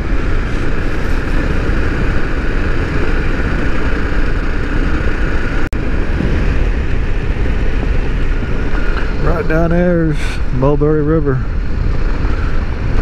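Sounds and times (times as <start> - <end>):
motorcycle engine: 0.0 - 13.0
wind noise on helmet: 0.0 - 13.0.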